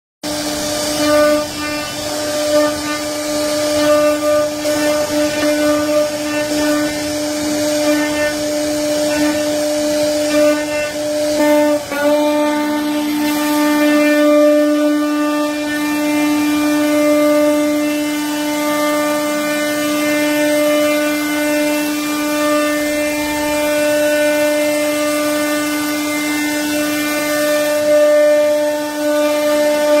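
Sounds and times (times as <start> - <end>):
router spindle whining: 0.3 - 30.0.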